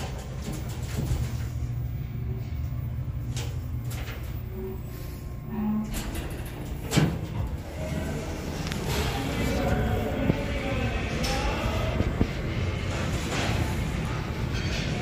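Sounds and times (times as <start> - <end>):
elevator doors sliding open: 0.0 - 15.0
elevator humming: 0.0 - 15.0.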